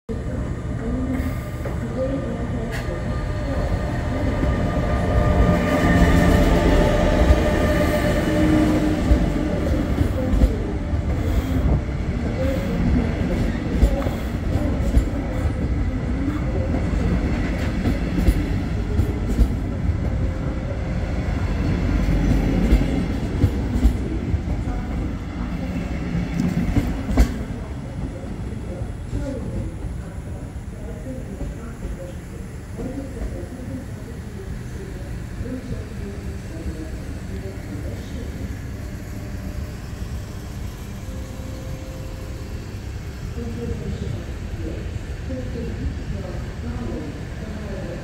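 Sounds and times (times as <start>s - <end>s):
electric locomotive whine: 0.1s - 48.0s.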